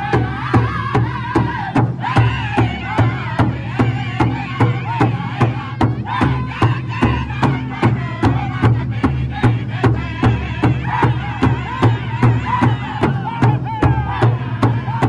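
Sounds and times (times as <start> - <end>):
big drum struck in unison: 0.0 - 15.0
group singing in high voices: 0.0 - 15.0.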